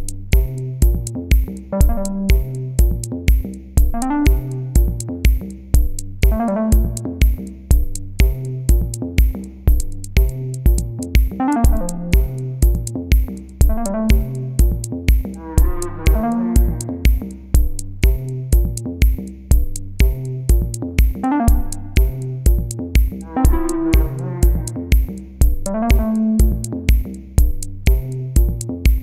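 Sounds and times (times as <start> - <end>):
electronic music with steady beat: 0.0 - 29.0.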